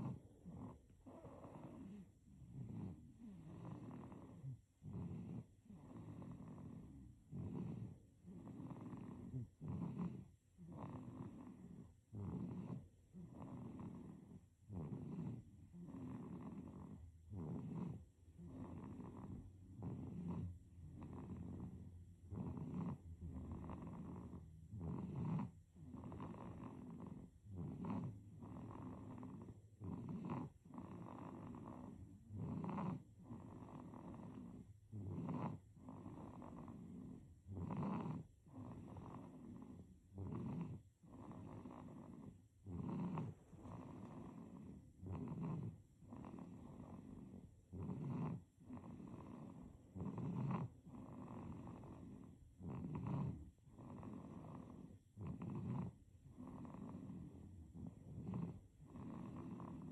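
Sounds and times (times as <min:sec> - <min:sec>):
baby snoring: 0:00.0 - 0:59.9.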